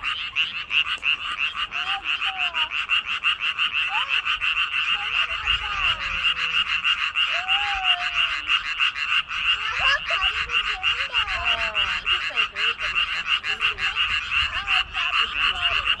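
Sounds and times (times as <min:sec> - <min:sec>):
chorus of frogs calling: 0:00.0 - 0:16.0
faint gliding frog calls: 0:00.0 - 0:16.0.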